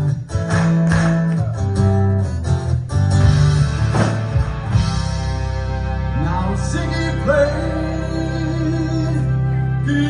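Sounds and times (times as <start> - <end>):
electric guitars: 0.0 - 10.0
live rock band playing: 0.0 - 10.0.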